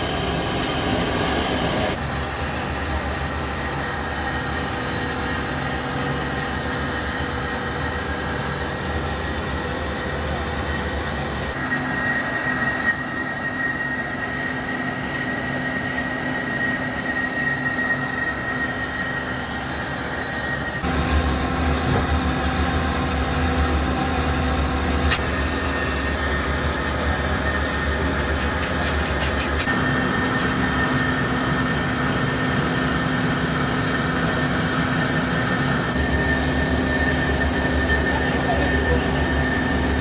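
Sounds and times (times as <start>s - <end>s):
high machine whine: 0.0s - 40.0s
workshop machinery humming: 0.0s - 40.0s.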